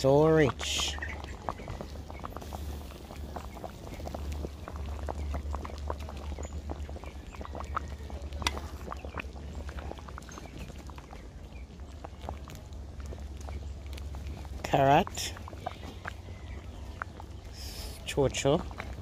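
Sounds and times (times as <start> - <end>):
low steady rumble: 0.0 - 19.0
thick soup bubbles popping: 0.0 - 19.0.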